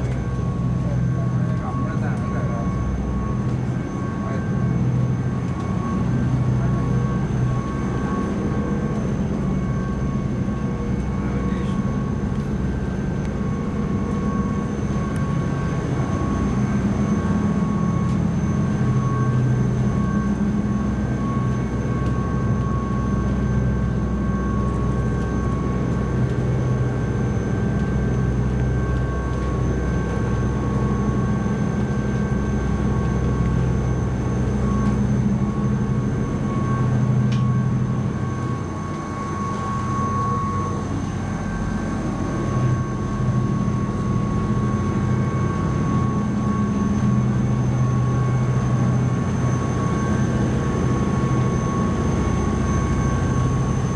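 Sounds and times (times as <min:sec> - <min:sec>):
ferry engines droning: 0:00.0 - 0:53.9.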